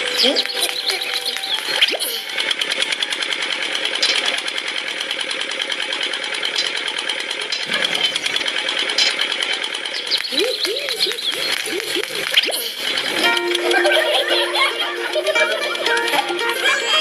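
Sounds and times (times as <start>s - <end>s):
small motor rattling: 0.0s - 17.0s.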